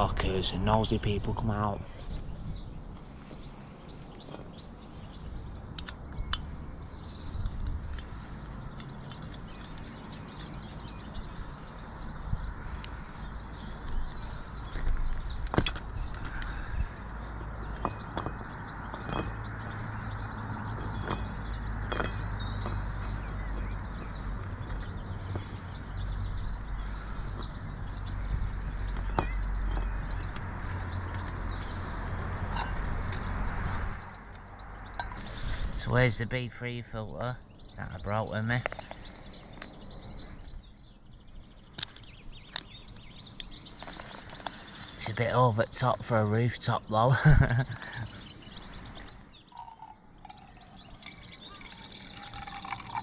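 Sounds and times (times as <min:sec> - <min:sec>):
high bird trill: 0:00.0 - 0:34.2, 0:34.9 - 0:53.0
birds singing: 0:00.0 - 0:53.0.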